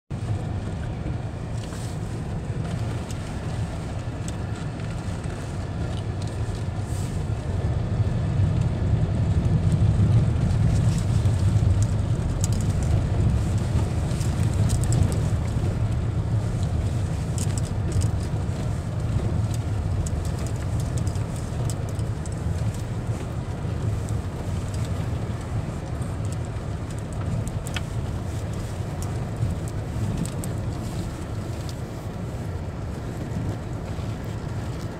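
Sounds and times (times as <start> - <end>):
car engine and tyres rumbling: 0.1 - 34.9
gravel ticks and clicks: 0.2 - 34.9.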